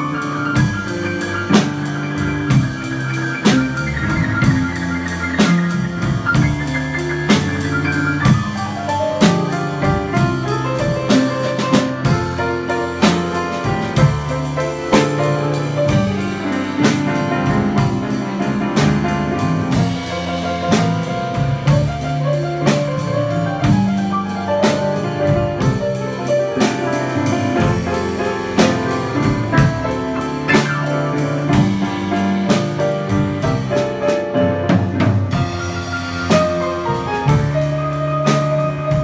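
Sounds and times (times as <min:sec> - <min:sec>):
drum kit steady beat: 0:00.0 - 0:39.0
upright piano chords and runs: 0:00.0 - 0:39.0.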